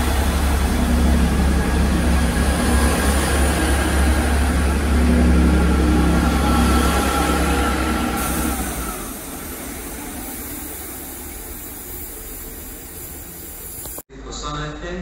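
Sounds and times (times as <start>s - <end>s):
approaching diesel train rumble: 0.0s - 14.0s
train engine drone: 0.0s - 14.0s.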